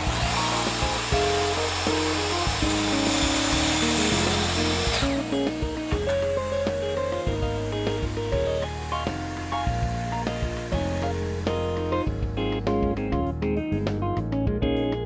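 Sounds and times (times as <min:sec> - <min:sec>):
circular saw cutting plywood: 0:00.0 - 0:12.4
background music: 0:00.0 - 0:15.0.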